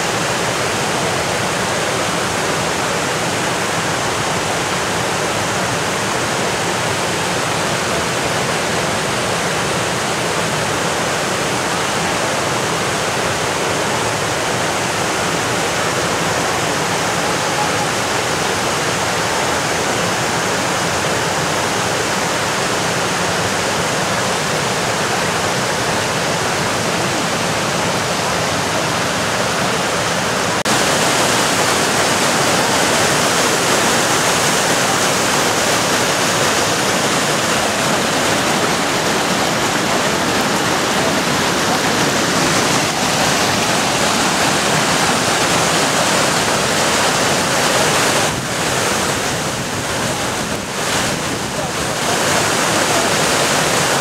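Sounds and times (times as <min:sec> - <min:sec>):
white water rushing over boulders: 0:00.0 - 0:54.0.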